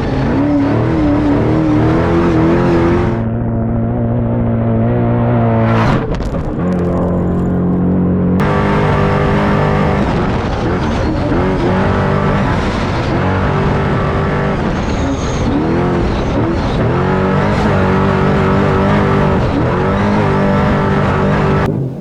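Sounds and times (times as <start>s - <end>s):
truck engine revving high: 0.0s - 22.0s.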